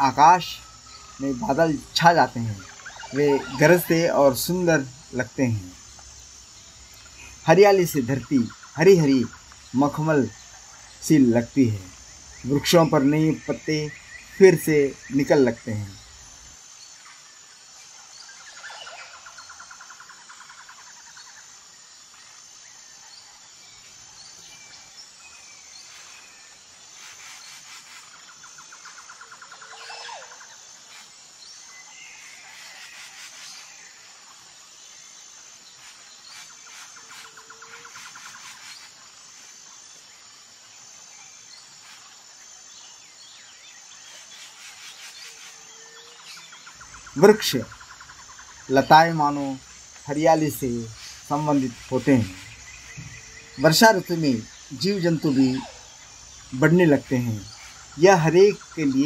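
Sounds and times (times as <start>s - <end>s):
high-pitched insect trill: 0.0s - 59.0s
rapid pulsed insect buzzing: 0.0s - 59.0s.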